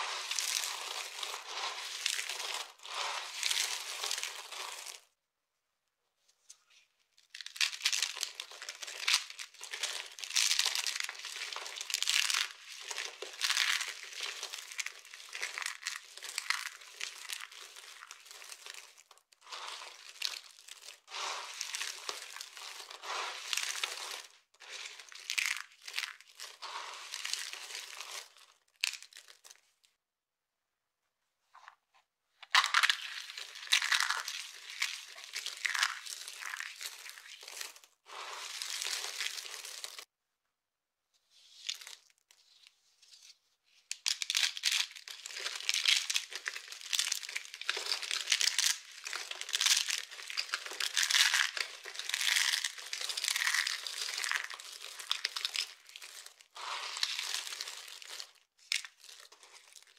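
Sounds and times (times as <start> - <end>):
soap shards crunching: 0.0 - 5.1, 7.2 - 29.6, 32.4 - 40.1, 43.9 - 59.9.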